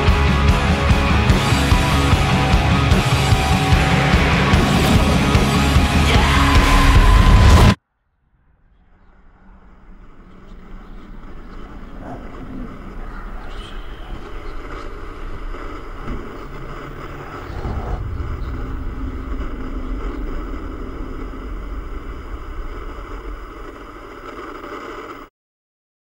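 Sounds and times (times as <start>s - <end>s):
low rumbling drone: 0.0s - 25.2s.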